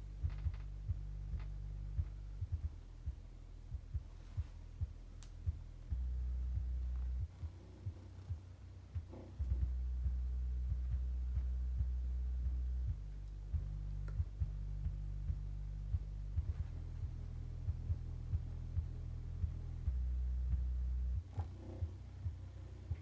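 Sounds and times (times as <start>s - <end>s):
deep bass hum from woofers: 0.0s - 23.0s
short bass thumps: 0.0s - 23.0s.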